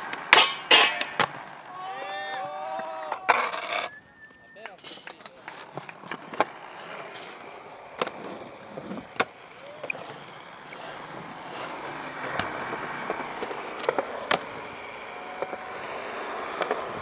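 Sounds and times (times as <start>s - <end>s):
skateboard clacking on ground: 0.0s - 17.0s
skateboard wheels rolling on concrete: 0.0s - 17.0s.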